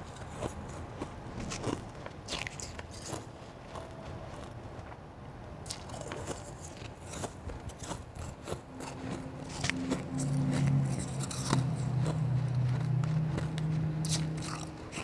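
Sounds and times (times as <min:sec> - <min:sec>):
ice being chewed: 0:00.0 - 0:04.6, 0:05.6 - 0:15.0
low steady hum: 0:00.0 - 0:15.0.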